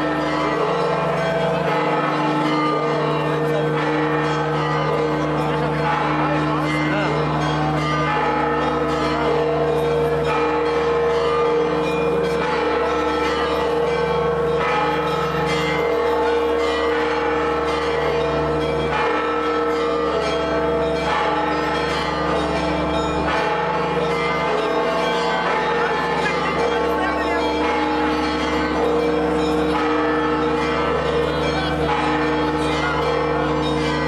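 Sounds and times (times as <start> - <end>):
church bells ringing: 0.0 - 34.0.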